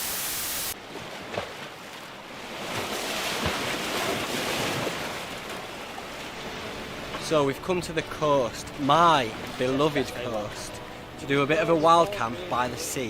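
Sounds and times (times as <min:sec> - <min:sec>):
sea waves washing on shore: 0:00.0 - 0:12.8.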